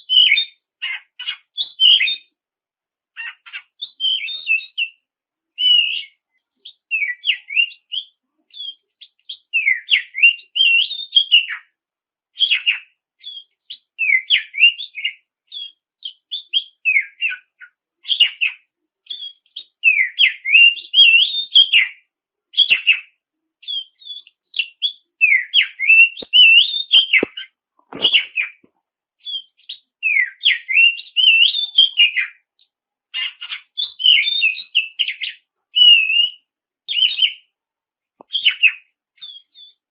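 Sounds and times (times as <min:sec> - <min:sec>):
bird singing whistled phrases: 0:00.0 - 0:02.3, 0:03.2 - 0:05.0, 0:05.6 - 0:11.7, 0:12.4 - 0:28.6, 0:29.2 - 0:32.5, 0:33.2 - 0:37.5, 0:38.3 - 0:39.9.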